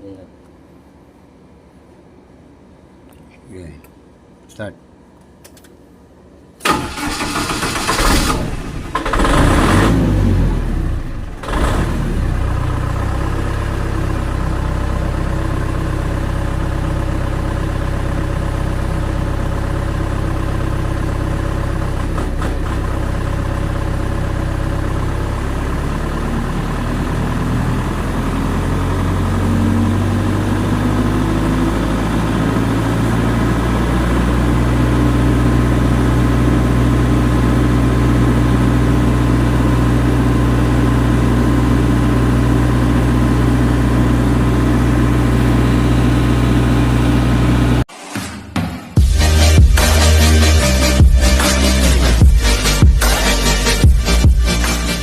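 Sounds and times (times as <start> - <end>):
generator engine running: 6.6 - 47.8, 49.0 - 55.0.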